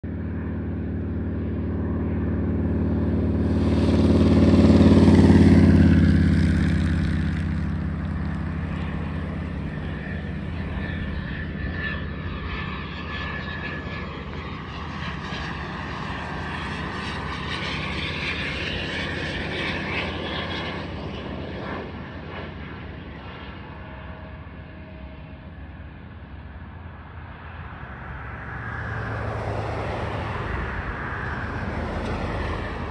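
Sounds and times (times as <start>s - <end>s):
road vehicle passing: 0.1s - 23.0s, 27.2s - 32.9s
jet passing overhead: 0.1s - 32.9s.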